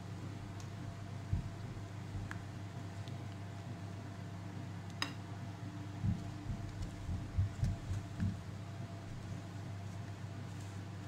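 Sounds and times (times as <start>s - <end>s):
low hum with faint hiss: 0.0s - 11.0s.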